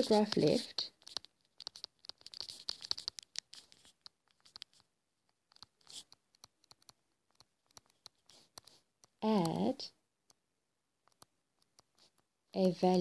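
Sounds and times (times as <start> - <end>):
stylus tapping and scratching screen: 0.0 - 13.0.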